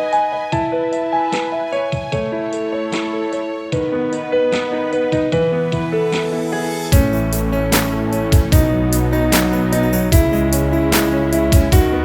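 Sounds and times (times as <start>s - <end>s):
soft piano instrumental music: 0.0s - 12.0s.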